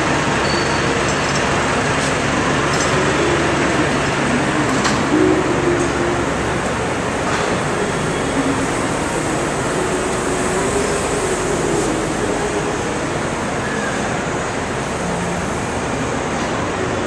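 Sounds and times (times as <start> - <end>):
heavy truck engine running: 0.0 - 17.0.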